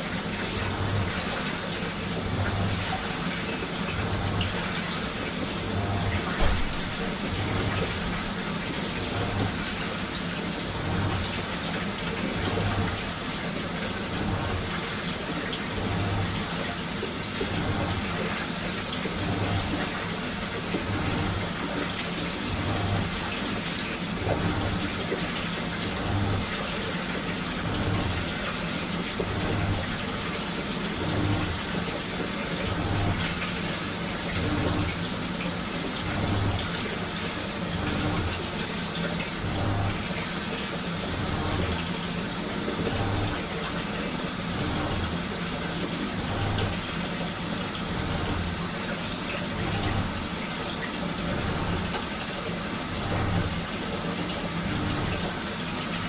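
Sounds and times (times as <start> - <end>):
washing machine hum: 0.0 - 56.0
water sloshing in washing machine: 0.0 - 56.0.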